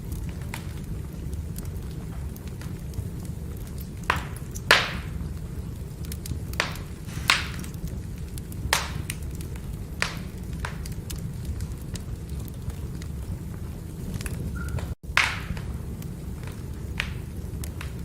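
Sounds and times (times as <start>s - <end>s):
fire crackling: 0.0s - 18.0s
firewood burning rumble: 0.0s - 18.0s
sharp pops of burning wood: 0.0s - 18.0s.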